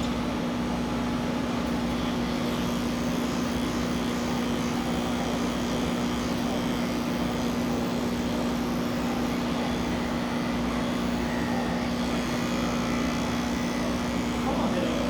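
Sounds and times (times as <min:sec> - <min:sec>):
electric clippers humming: 0:01.6 - 0:15.0.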